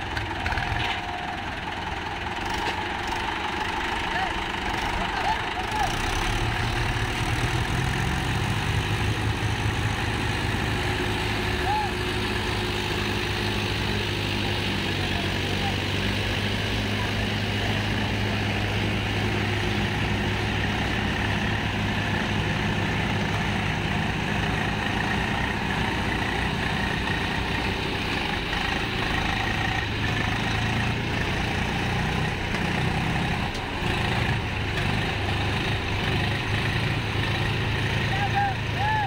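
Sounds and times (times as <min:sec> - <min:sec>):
diesel tractor engines running: 0:00.0 - 0:39.0.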